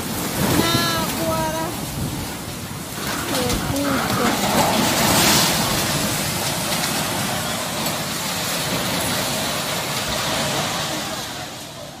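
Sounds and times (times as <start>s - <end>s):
roar of crumbling masonry: 0.0s - 12.0s.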